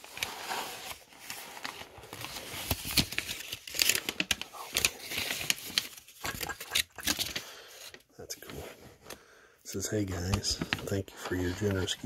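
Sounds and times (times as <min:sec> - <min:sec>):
paper crinkling and rustling: 0:00.0 - 0:08.6, 0:10.0 - 0:12.0.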